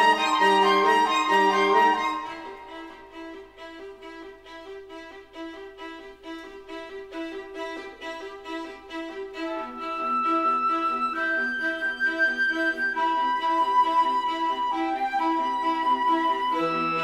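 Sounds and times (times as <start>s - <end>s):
bowed string melody: 0.0s - 17.0s.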